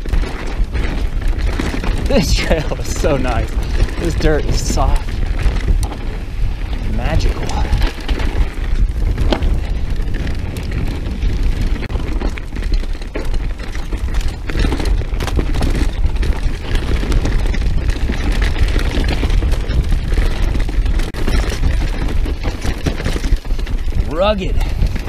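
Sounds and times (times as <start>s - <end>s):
bike knocks and rattles: 0.0s - 25.0s
wind buffeting microphone: 0.0s - 25.0s.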